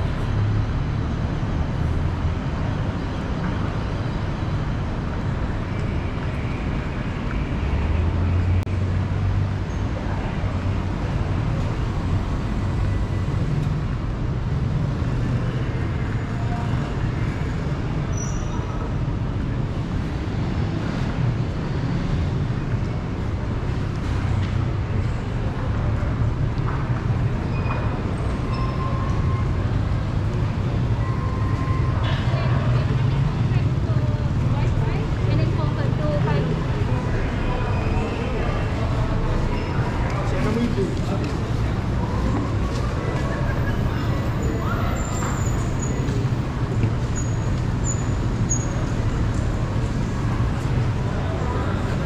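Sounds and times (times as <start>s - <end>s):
vehicle engines rumbling: 0.0s - 52.0s.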